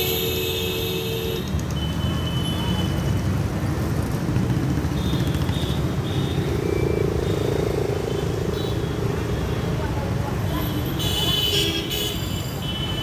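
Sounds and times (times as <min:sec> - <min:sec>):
passing cars and motorcycles: 0:00.0 - 0:13.0.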